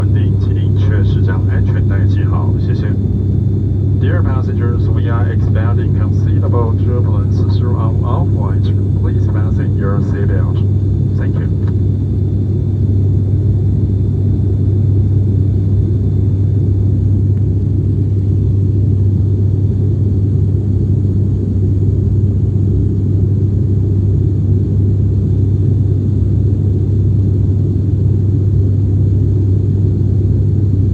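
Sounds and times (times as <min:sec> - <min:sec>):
airliner cabin drone: 0:00.0 - 0:30.9.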